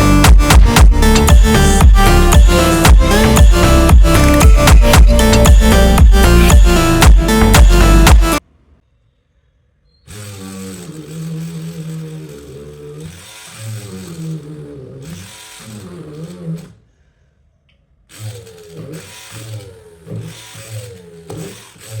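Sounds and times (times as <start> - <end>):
drill motor running: 0.0 - 8.4, 10.1 - 16.7, 18.1 - 22.0.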